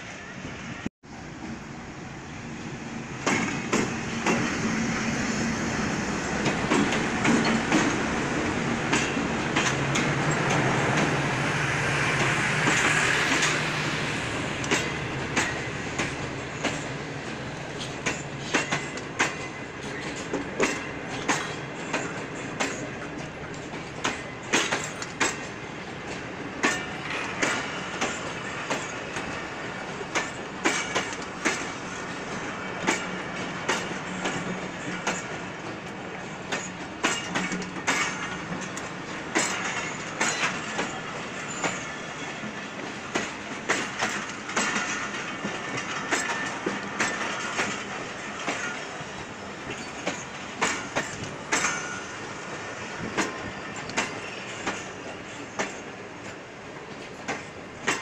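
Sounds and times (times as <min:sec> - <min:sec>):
train wheels clacking over rail joints: 0:03.2 - 0:58.0.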